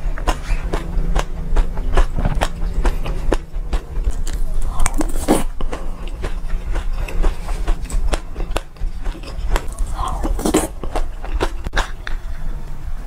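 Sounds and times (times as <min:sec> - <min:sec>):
chewing crackly seeds: 0:00.0 - 0:12.8
low steady hum: 0:00.0 - 0:13.0.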